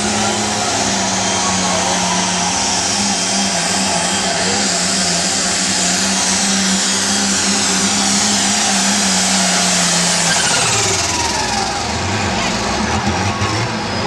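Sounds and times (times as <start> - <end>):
high engine whine: 0.0 - 14.0
low engine drone: 0.0 - 14.0
tractor engine howling: 0.0 - 14.0.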